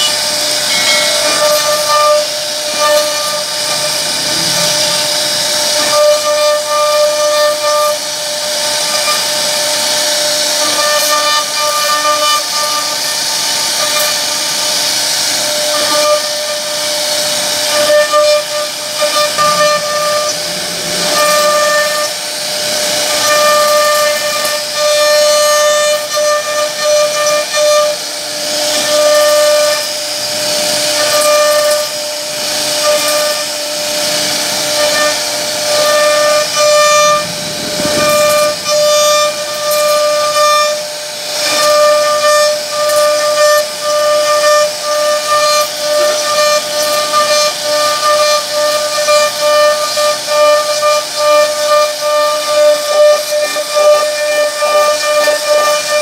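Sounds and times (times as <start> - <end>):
cnc router spindle whine: 0.0 - 56.0.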